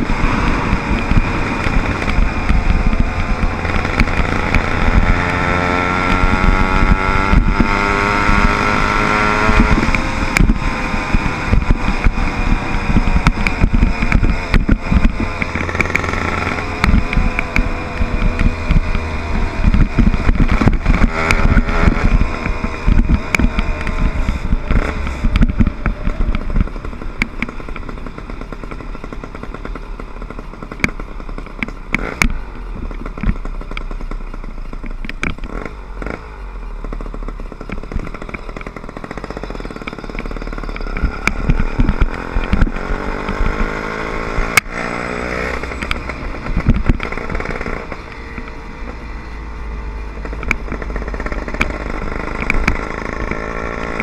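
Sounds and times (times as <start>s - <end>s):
bike rattling over bumps: 0.0s - 54.0s
small motorbike engine running: 0.0s - 54.0s.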